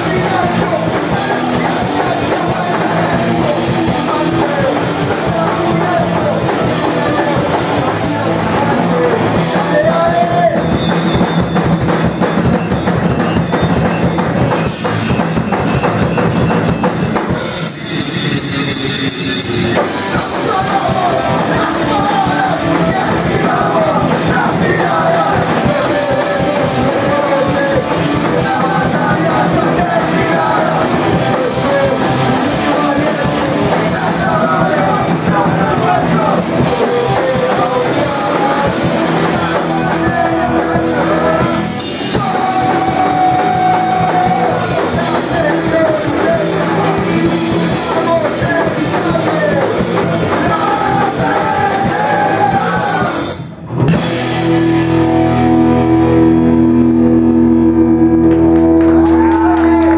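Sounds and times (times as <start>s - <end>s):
rock band with vocals: 0.0s - 59.9s.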